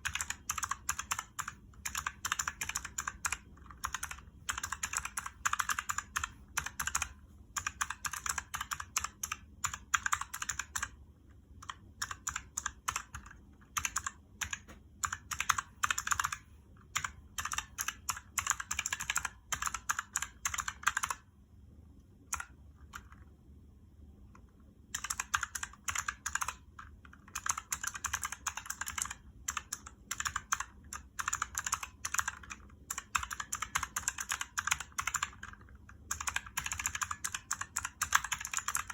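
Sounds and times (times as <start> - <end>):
fast typing on mechanical keyboard: 0.0 - 11.0, 11.6 - 21.3, 22.3 - 23.2, 24.9 - 38.9.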